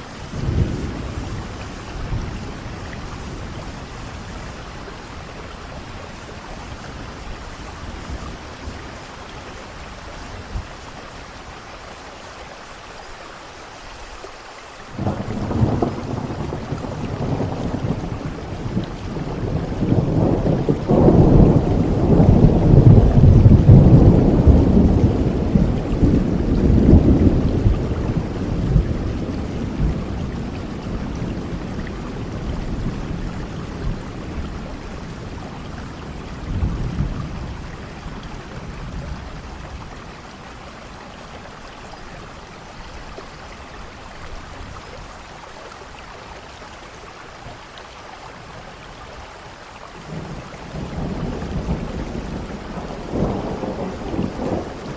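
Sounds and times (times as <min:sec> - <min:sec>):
thunder rumbling: 0:00.0 - 0:10.9, 0:15.0 - 0:44.8, 0:50.0 - 0:54.9
steady rain falling: 0:00.0 - 0:54.9.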